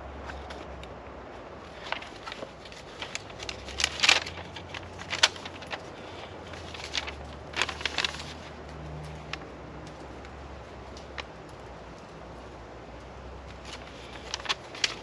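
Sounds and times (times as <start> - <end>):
crinkly rustling: 0.0 - 15.0.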